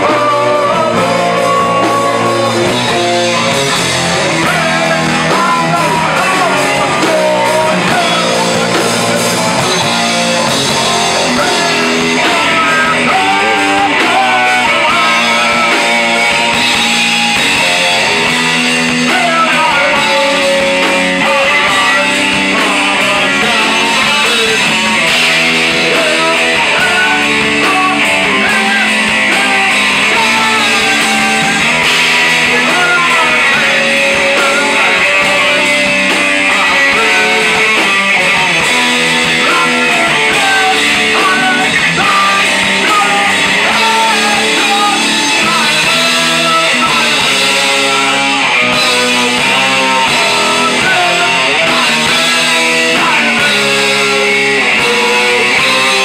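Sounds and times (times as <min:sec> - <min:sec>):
electric guitar: 0:00.0 - 0:56.0
live rock band playing: 0:00.0 - 0:56.0.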